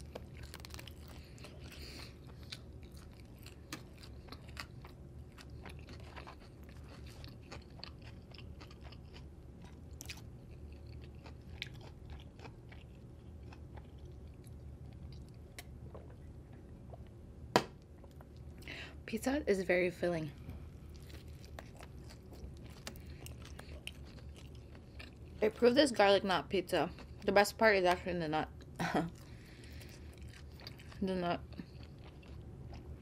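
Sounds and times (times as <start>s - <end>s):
close chewing of pizza: 0.0s - 17.2s, 20.4s - 28.0s, 28.6s - 33.0s.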